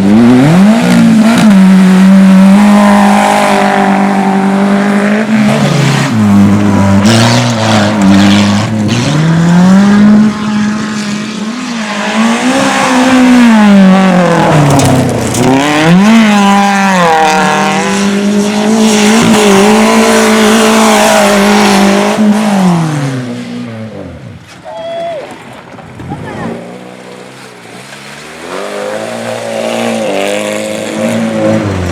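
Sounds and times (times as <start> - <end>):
car engine revving: 0.0 - 24.2, 26.5 - 31.9.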